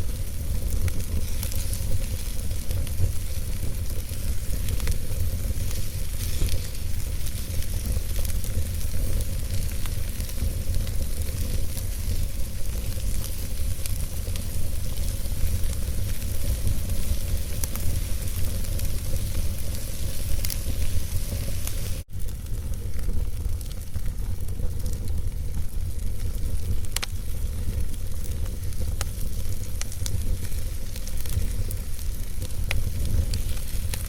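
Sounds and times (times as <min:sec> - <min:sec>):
log fire crackling: 0:00.0 - 0:34.0.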